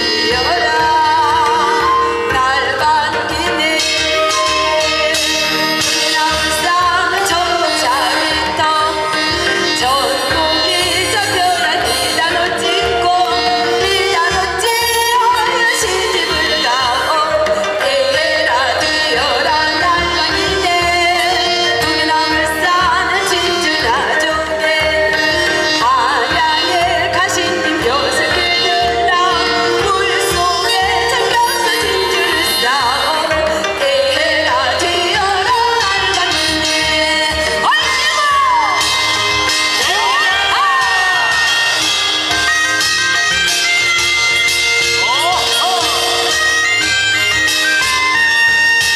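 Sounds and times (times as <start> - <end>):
woman singing with vibrato: 0.0 - 48.9.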